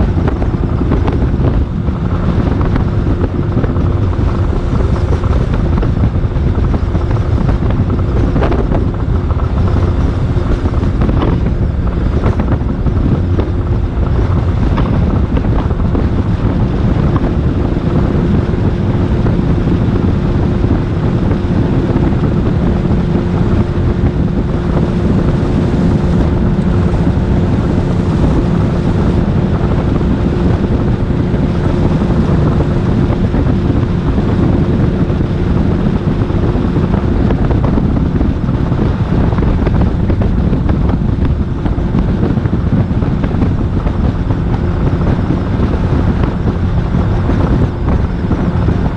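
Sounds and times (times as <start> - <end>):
boat motor humming: 0.0 - 48.9
wind buffeting microphone: 0.0 - 48.9.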